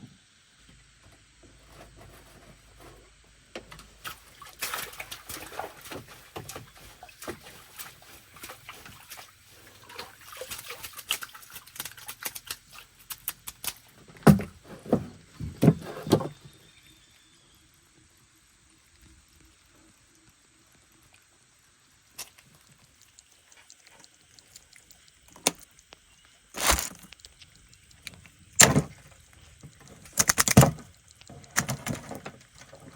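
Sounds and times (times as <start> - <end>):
water splashing and sloshing: 1.5 - 16.8, 21.2 - 32.9.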